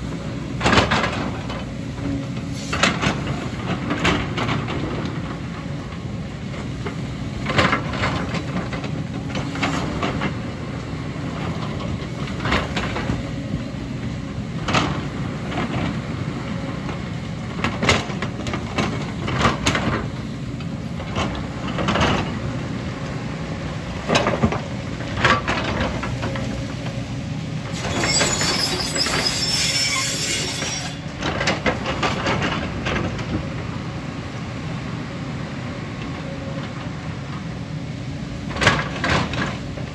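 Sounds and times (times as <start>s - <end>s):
excavator engine rumble: 0.0s - 39.9s.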